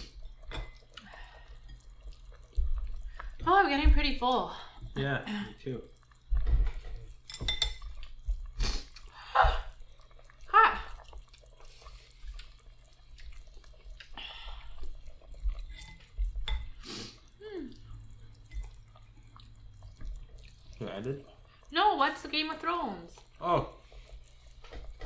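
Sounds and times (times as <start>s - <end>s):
slurping and chewing: 0.0s - 3.5s, 5.6s - 21.7s, 23.0s - 25.0s.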